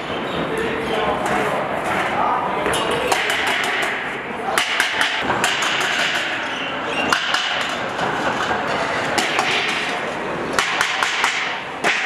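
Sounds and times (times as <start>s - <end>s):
sharp knocks and clatter: 1.2s - 12.0s.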